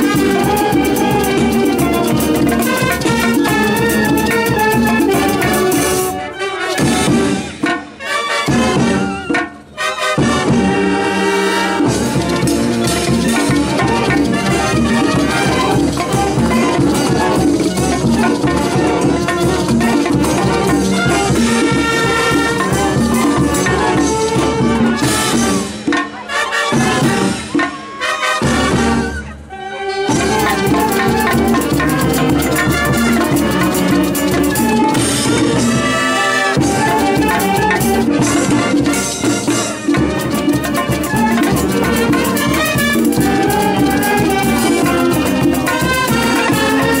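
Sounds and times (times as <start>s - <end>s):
brass band playing: 0.0s - 47.0s.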